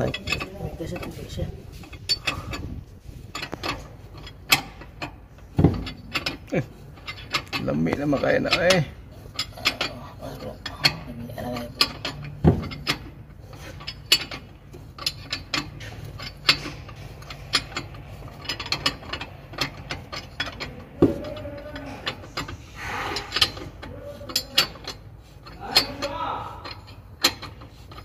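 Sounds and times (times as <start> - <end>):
steady low hum: 0.0 - 28.0
wrench clicking on metal: 0.0 - 28.0.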